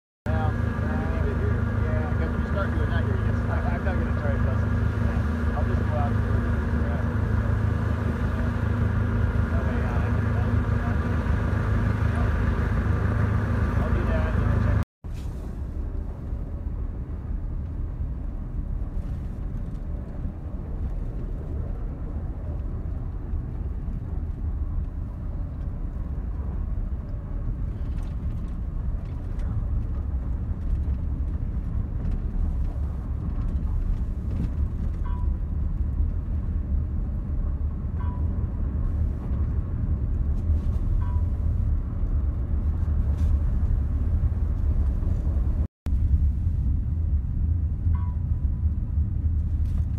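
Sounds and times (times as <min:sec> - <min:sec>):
vehicle rumbling while moving: 0:00.3 - 0:49.9.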